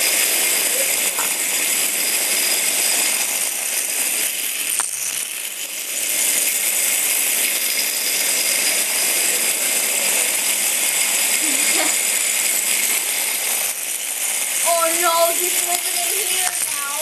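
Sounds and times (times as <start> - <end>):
toy robots buzzing and rattling: 0.0 - 17.0.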